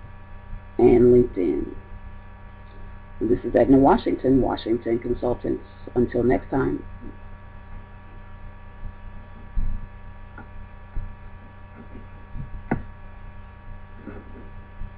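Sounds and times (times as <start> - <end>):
electrical mains hum: 0.0 - 14.9.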